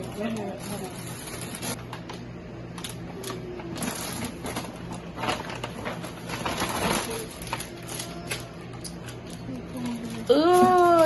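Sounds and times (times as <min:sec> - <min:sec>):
packaging crinkling and clicking: 0:01.3 - 0:11.0.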